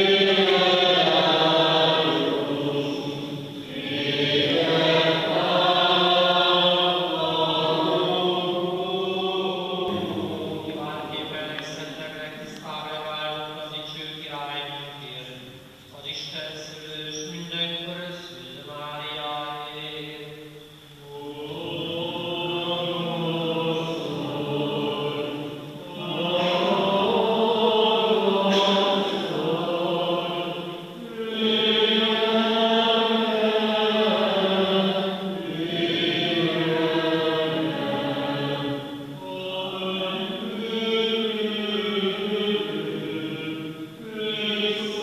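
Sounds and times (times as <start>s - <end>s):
voices chanting slow phrases: 0.0s - 12.9s, 21.0s - 45.0s.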